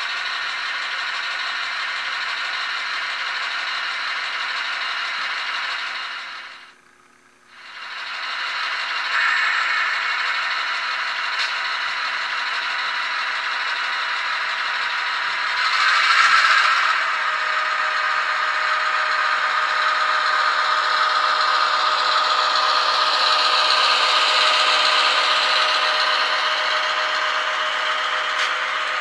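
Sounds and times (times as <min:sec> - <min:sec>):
model train wheels rattling on track: 0:00.0 - 0:06.6, 0:07.6 - 0:29.0
model train diesel engine sound: 0:00.0 - 0:29.0.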